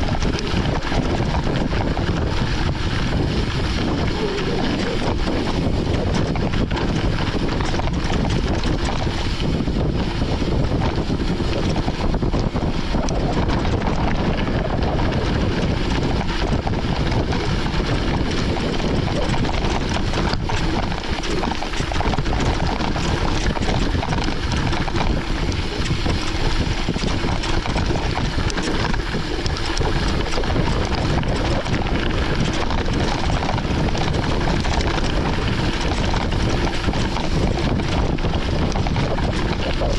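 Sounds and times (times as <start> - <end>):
bike riding on gravel rumble: 0.0 - 39.9
wind on microphone: 0.0 - 39.9.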